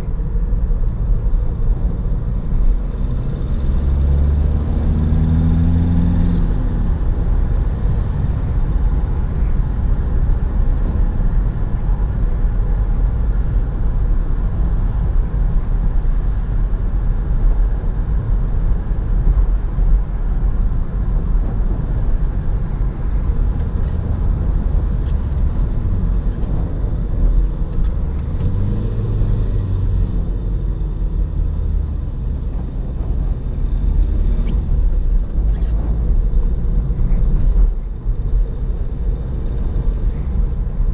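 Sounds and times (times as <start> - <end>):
car engine rumble: 0.0 - 40.9
deep engine hum: 0.0 - 40.9
road noise: 0.0 - 40.9.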